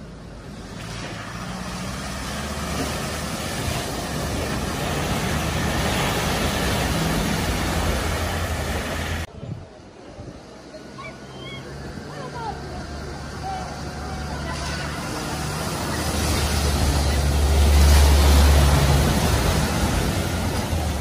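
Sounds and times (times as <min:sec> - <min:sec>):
water rushing and spraying: 0:00.0 - 0:21.0.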